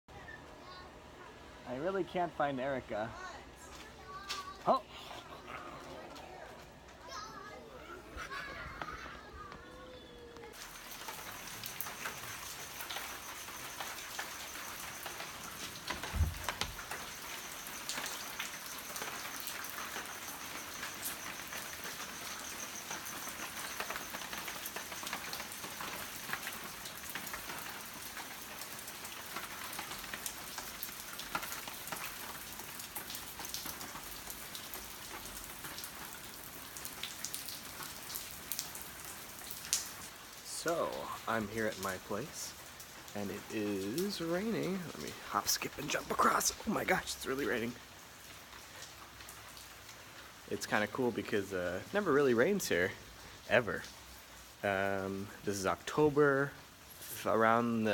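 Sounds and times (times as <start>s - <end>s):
steady rain with ticking drops: 8.5s - 57.9s.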